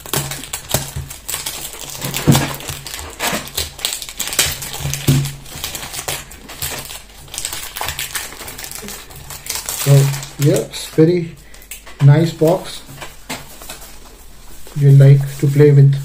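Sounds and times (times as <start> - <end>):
cellophane wrap crinkling: 0.0 - 16.0.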